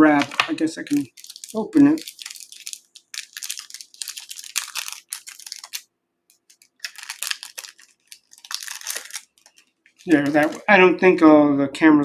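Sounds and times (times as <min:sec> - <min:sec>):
wrapping crinkling: 0:00.0 - 0:10.7.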